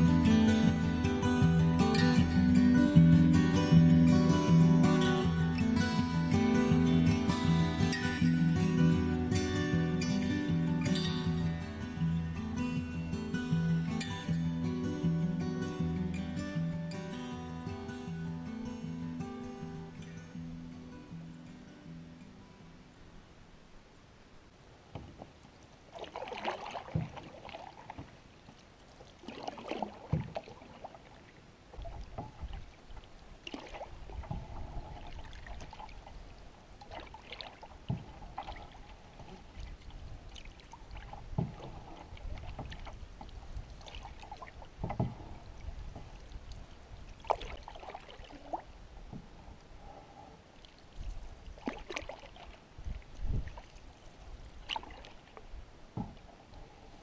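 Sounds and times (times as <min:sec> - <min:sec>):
paddle pulling through water: 0:00.0 - 0:17.1, 0:24.6 - 0:57.0
water lapping along hull: 0:00.0 - 0:57.0.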